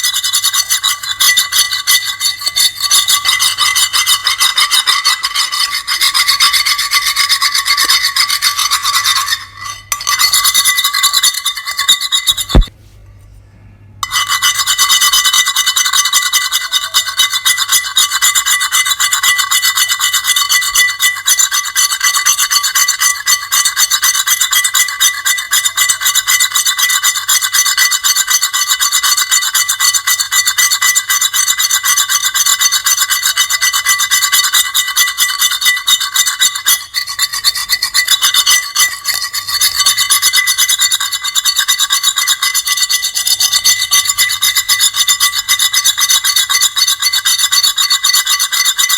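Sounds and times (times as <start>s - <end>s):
harsh grating scrape with squealing: 0.0s - 12.7s, 14.0s - 26.8s, 31.1s - 48.9s.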